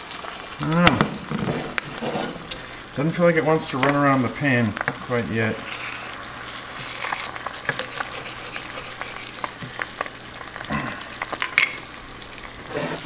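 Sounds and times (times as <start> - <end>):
butter sizzling and popping: 0.0 - 13.0.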